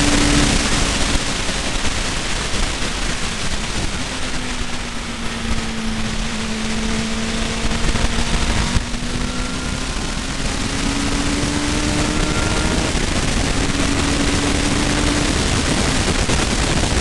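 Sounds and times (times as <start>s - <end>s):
car engine at speed: 0.0s - 17.0s
wind and road noise: 0.0s - 17.0s.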